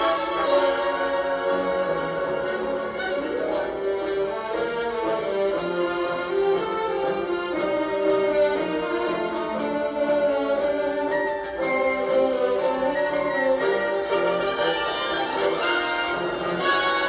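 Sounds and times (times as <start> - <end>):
orchestral film music: 0.0 - 17.0.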